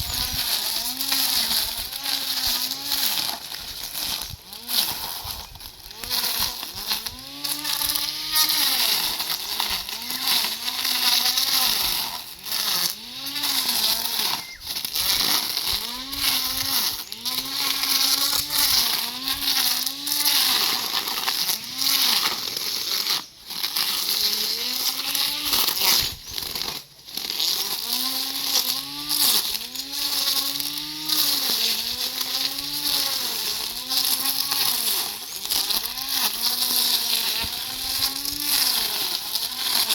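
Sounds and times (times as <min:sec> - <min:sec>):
lawn mower motor running: 0:00.0 - 0:39.9.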